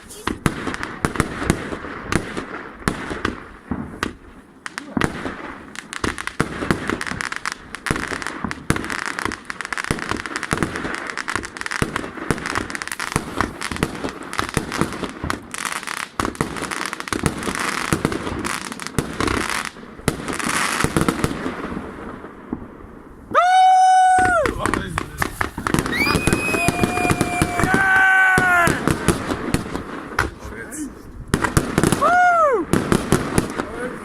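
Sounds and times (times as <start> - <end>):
firework bangs and crackling: 0.0 - 34.0.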